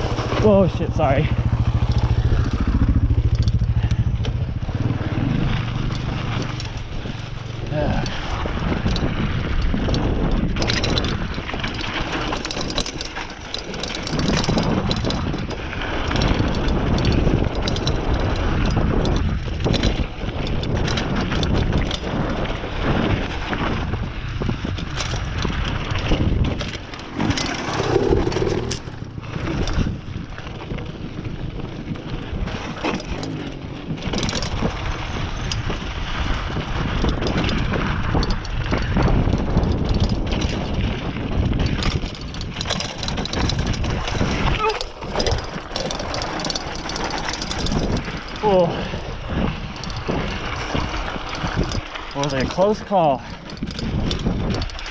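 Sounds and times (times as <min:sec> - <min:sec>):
bike knocks and rattles: 0:00.0 - 0:54.9
bike tyres crunching over dirt: 0:00.0 - 0:54.9
wind buffeting microphone: 0:00.0 - 0:54.9.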